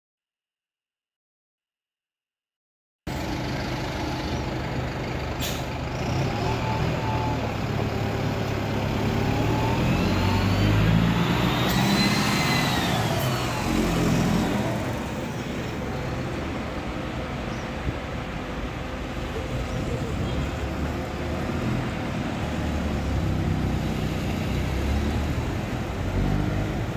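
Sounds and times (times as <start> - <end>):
bus diesel engine pulling away: 3.1 - 26.9.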